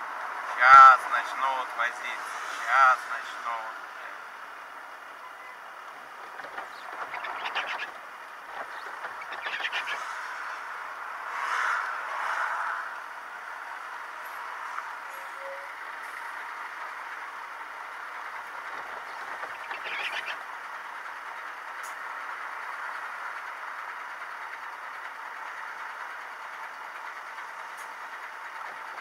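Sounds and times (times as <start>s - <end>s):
in-cab vehicle noise: 0.0s - 29.0s
rattle in vehicle: 0.0s - 29.0s.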